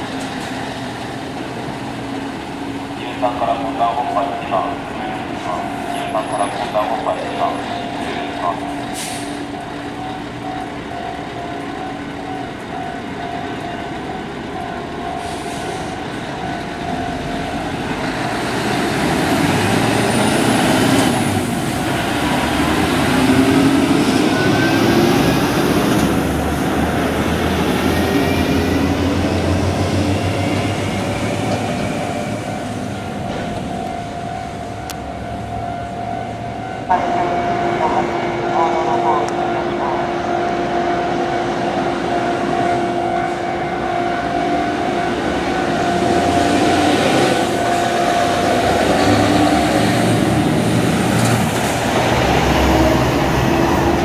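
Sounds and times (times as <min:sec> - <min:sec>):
truck engine and tyre noise: 0:00.0 - 0:36.9, 0:41.8 - 0:54.0.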